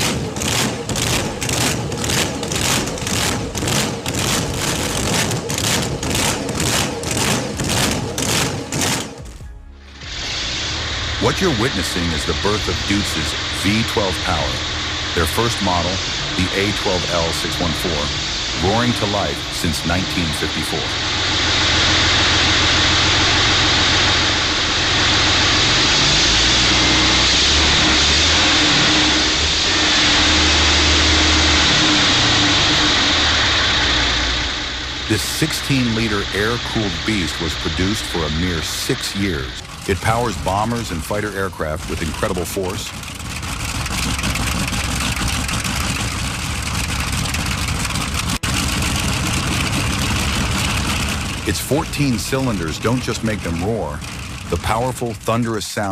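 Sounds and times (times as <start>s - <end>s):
diesel engine running loudly: 0.0s - 55.9s.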